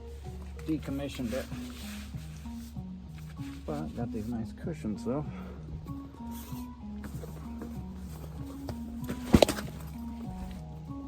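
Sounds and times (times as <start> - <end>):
slow melody of low notes: 0.0 - 11.0.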